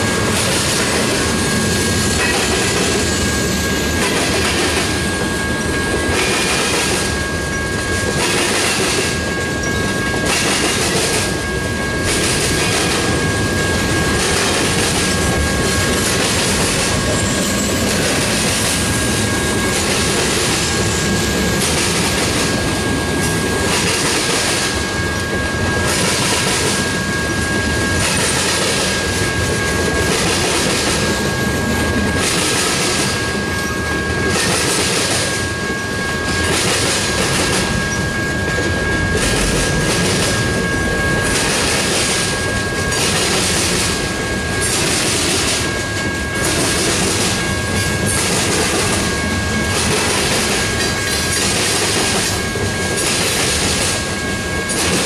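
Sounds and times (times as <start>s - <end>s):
clickety-clack over rail joints: 0.0s - 27.0s, 27.9s - 55.0s
freight train wheels rumbling: 0.0s - 55.0s.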